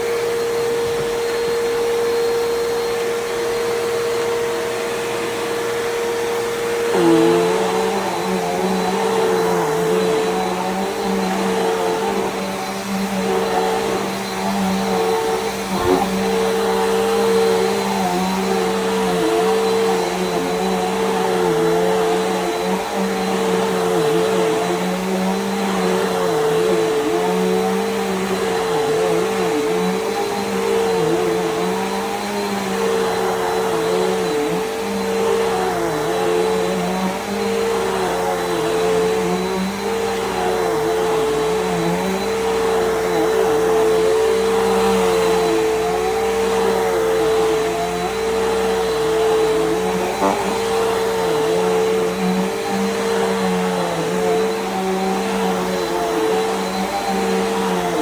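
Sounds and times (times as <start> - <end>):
upright vacuum running: 0.0 - 58.0.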